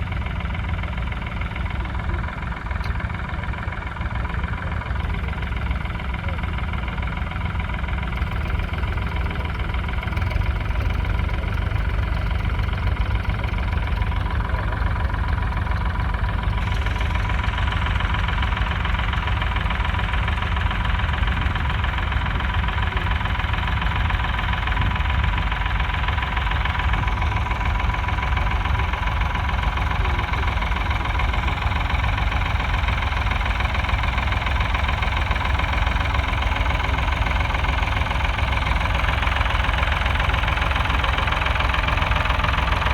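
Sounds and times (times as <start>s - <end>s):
diesel tractor engine running: 0.0s - 42.9s.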